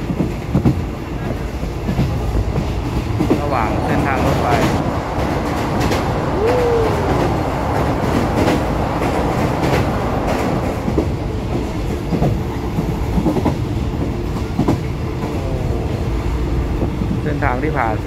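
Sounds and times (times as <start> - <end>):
wheels clacking over rail joints: 0.0 - 15.4
train wheels rumbling on rails: 0.0 - 18.0.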